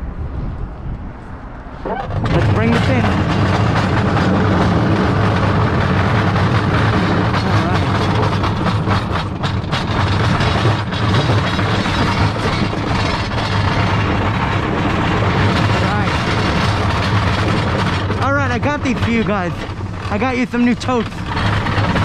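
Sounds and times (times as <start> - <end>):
bin rolling on concrete: 1.8 - 22.0
scrap metal knocks: 1.8 - 22.0.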